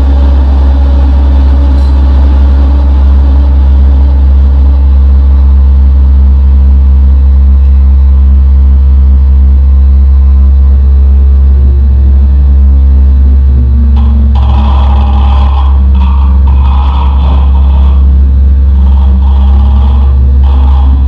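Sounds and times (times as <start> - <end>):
synthesizer low drone: 0.0 - 21.0.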